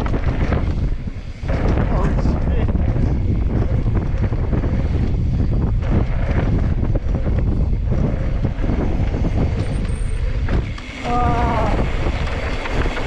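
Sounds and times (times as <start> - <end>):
bike tyres rolling on dirt trail: 0.0 - 13.0
wind buffeting microphone: 0.0 - 13.0.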